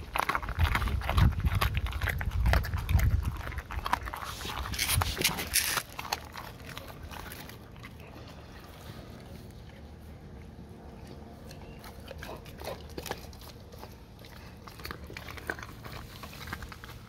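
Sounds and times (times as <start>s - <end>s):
dog chewing fish: 0.0s - 17.0s.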